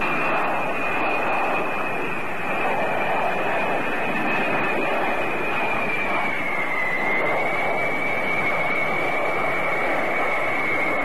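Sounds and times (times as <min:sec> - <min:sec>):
jet engines flying overhead: 0:00.0 - 0:11.0.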